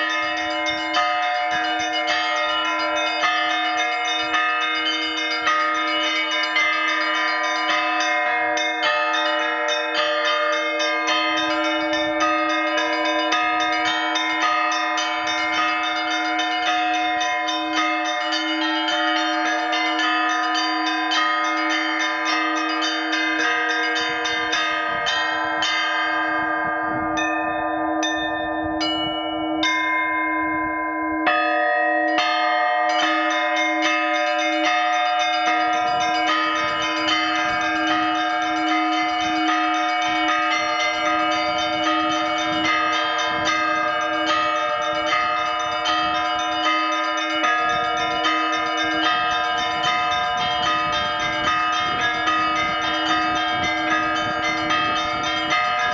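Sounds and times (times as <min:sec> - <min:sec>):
large bell humming: 0:00.0 - 0:55.9
small church bells ringing: 0:00.0 - 0:55.9.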